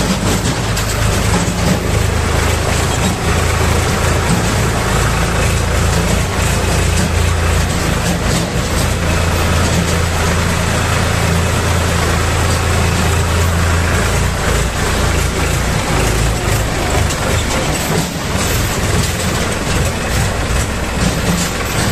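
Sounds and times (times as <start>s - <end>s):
knocks and rattles from rough ground: 0.0s - 21.9s
tractor diesel engine running: 0.0s - 21.9s.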